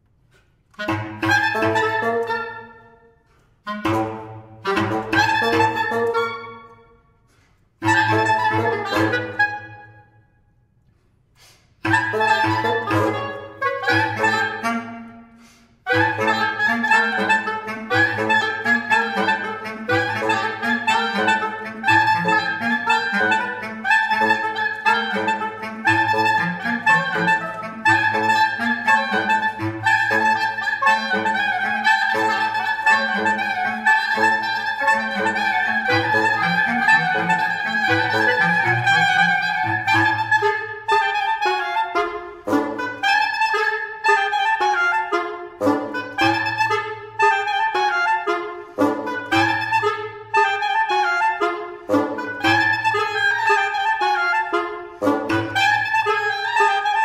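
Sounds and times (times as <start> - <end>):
reed quintet playing staccato: 0.7 - 2.9, 3.6 - 6.8, 7.8 - 9.9, 11.8 - 15.2, 15.8 - 57.0.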